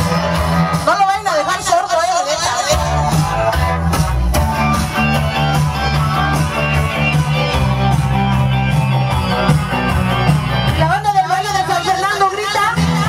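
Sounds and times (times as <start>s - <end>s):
dance music over sound system: 0.0s - 13.0s.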